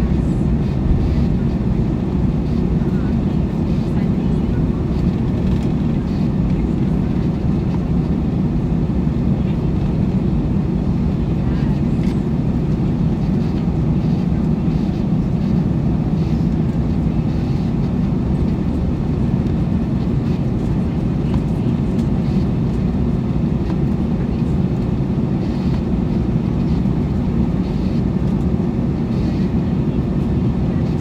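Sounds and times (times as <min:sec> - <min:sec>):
airplane engines rumbling in cabin: 0:00.0 - 0:31.0.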